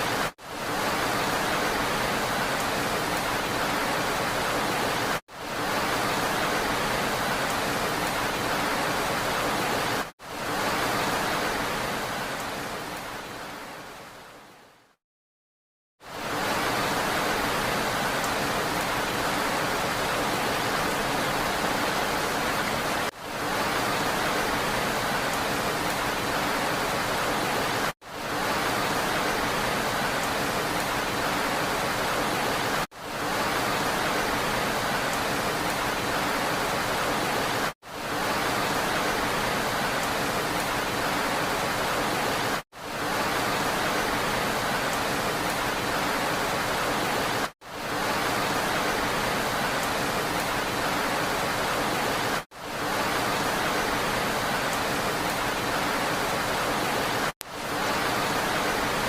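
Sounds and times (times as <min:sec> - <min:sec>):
dense rain hiss: 0:00.0 - 0:15.0, 0:16.0 - 0:59.0.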